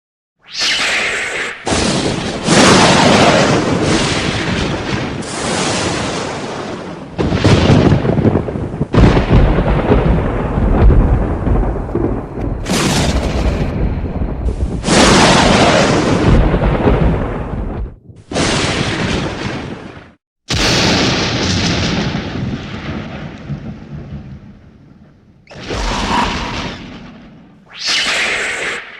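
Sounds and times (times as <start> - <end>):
lightning cracks: 0.6 - 28.9
rumbling thunder: 1.7 - 27.6.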